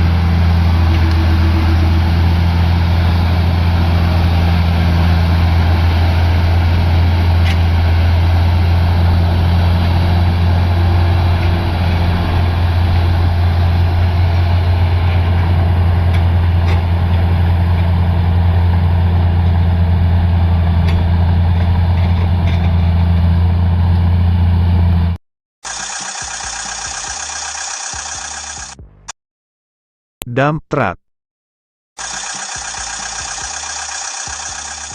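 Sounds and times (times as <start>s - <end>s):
diesel engine running: 0.0s - 29.1s, 32.0s - 34.9s.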